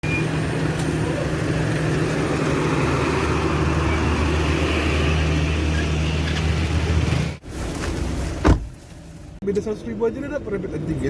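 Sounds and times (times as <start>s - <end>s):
car engine hum: 0.0s - 9.2s
road noise inside car: 0.0s - 11.0s.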